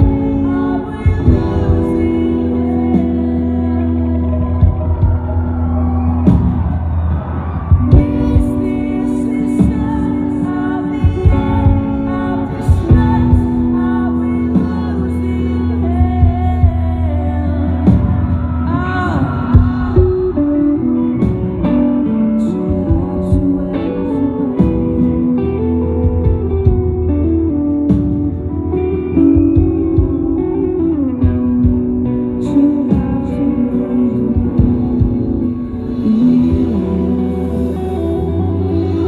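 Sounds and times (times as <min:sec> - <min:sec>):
person singing: 0:00.0 - 0:06.5, 0:07.6 - 0:39.0
bass guitar: 0:00.0 - 0:39.0
guitar chords: 0:00.0 - 0:39.0.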